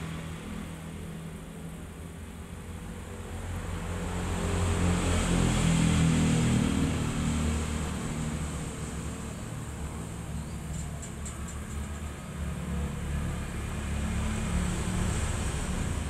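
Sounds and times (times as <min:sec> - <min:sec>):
passing vehicle engine hum: 0:00.0 - 0:16.0.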